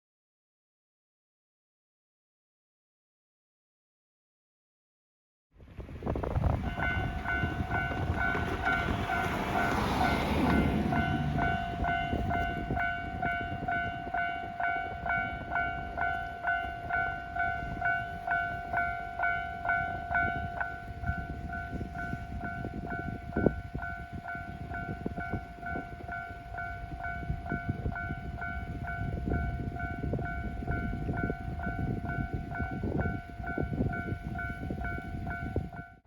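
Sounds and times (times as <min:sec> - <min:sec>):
train passing: 0:05.8 - 0:36.0
level crossing bell ringing: 0:06.6 - 0:36.0.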